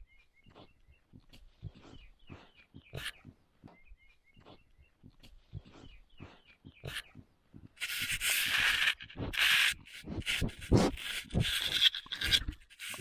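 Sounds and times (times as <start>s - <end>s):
animals scraping in loose dirt: 0.0s - 13.0s.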